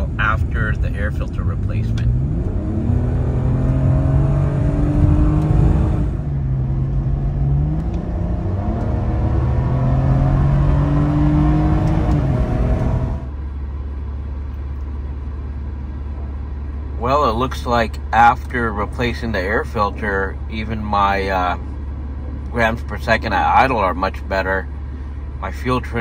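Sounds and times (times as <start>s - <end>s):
car engine at full throttle: 0.0s - 26.0s.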